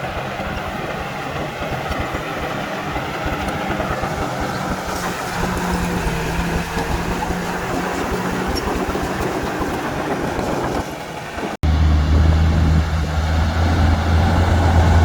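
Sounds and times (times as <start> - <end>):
diesel earthmoving machinery running: 0.0 - 15.0.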